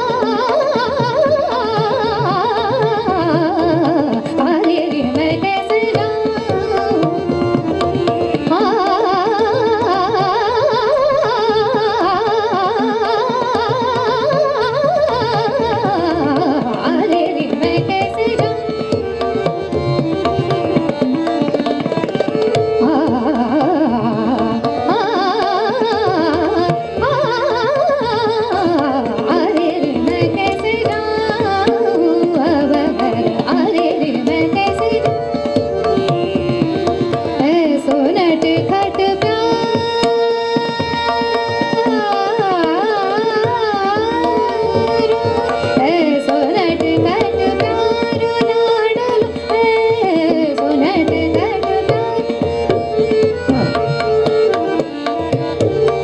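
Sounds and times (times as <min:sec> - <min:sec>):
woman singing: 0:00.0 - 0:19.5, 0:21.8 - 0:53.8
harmonium sustained tone: 0:00.0 - 0:56.0
tabla strokes: 0:00.0 - 0:56.0.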